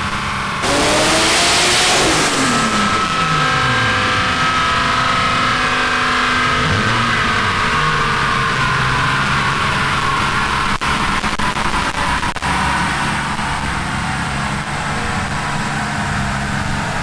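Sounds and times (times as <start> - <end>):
turbo engine revving then idling: 0.0 - 17.0.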